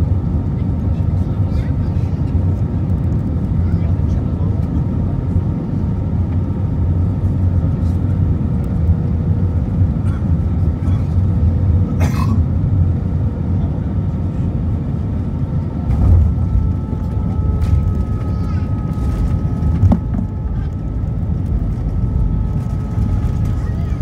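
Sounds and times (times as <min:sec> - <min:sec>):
airplane cabin low rumble: 0:00.0 - 0:24.0
faint engine tones: 0:00.0 - 0:24.0.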